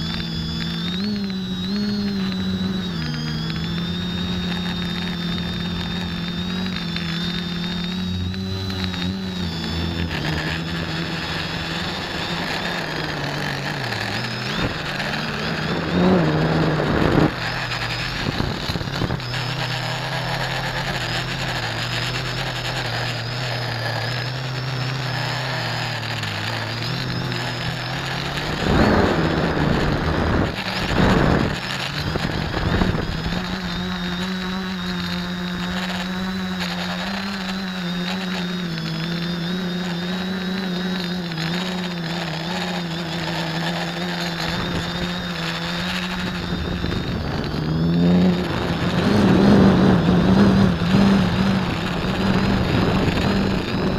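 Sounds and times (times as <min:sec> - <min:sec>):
faint high whine: 0:00.0 - 0:53.9
quadcopter propellers droning: 0:00.0 - 0:53.9.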